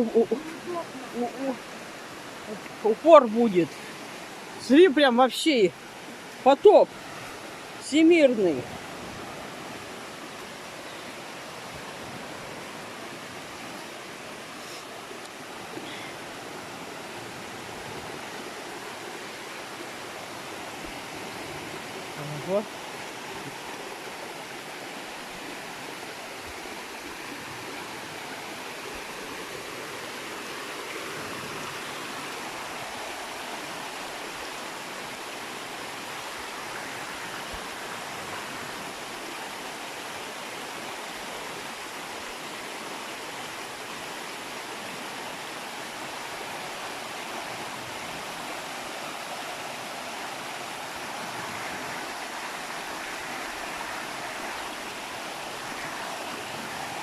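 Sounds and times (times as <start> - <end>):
waterfall pouring over rocks: 0.0 - 57.0.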